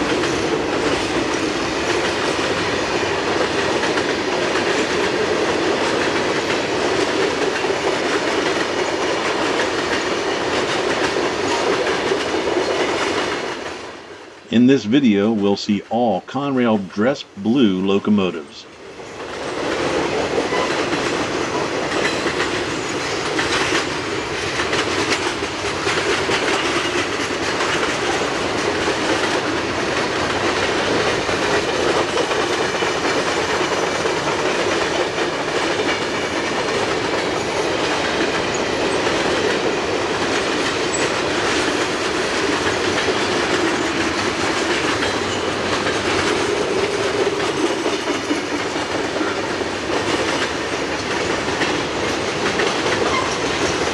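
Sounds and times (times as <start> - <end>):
train wheels clacking on rails: 0.0 - 14.4, 18.8 - 53.9.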